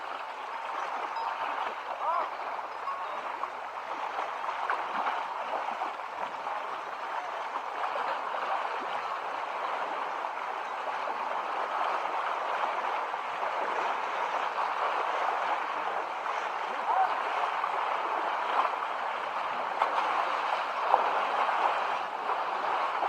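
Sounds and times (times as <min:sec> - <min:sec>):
water rushing and splashing: 0:00.0 - 0:23.0.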